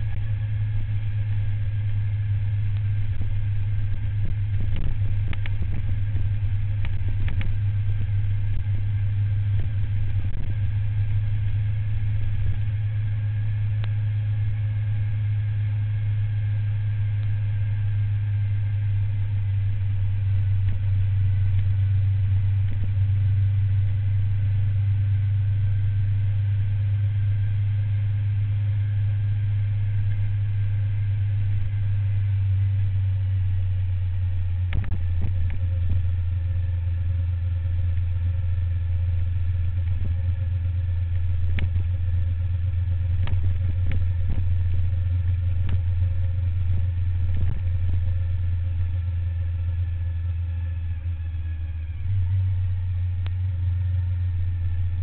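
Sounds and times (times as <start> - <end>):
motorcycle engine drone: 0.0 - 55.0.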